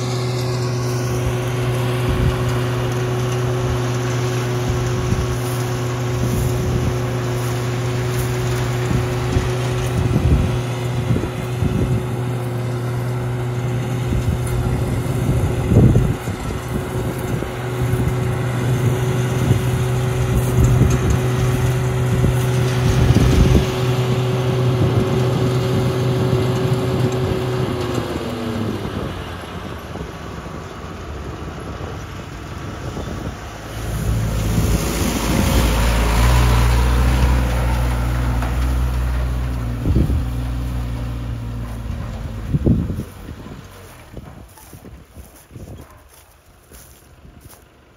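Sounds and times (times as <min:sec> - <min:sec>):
rough rumble with low hum: 0:00.0 - 0:30.1, 0:31.6 - 0:47.9
engine running steadily: 0:00.0 - 0:47.9.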